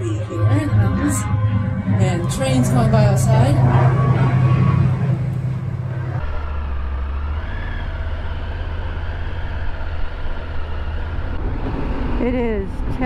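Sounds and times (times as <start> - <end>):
low vehicle drone: 0.0 - 13.0
train rumbling past: 0.0 - 13.0.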